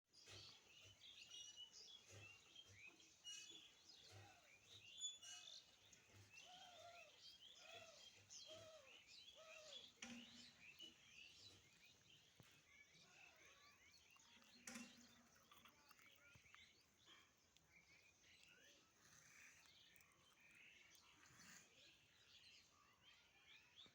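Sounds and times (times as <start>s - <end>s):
birds chirping and twittering: 0.1s - 23.9s.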